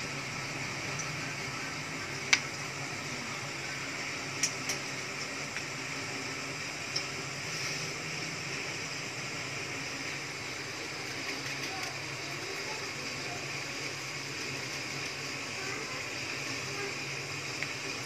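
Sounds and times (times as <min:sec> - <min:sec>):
fan-like hiss: 0:00.0 - 0:18.0.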